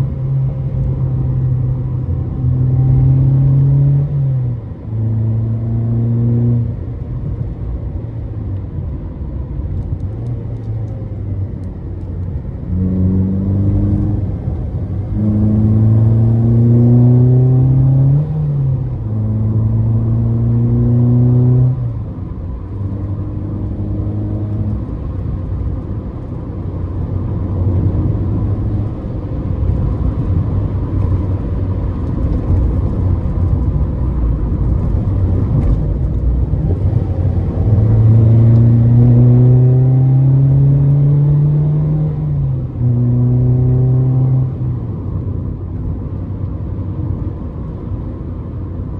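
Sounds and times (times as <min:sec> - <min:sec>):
car engine accelerating: 0:00.0 - 0:07.2, 0:09.8 - 0:48.9
road rumble: 0:00.0 - 0:48.9.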